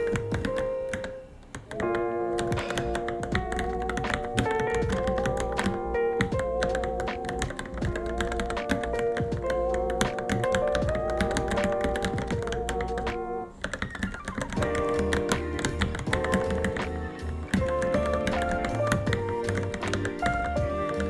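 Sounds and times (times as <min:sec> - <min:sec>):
background music: 0:00.0 - 0:21.0
mechanical keyboard typing: 0:00.0 - 0:21.0.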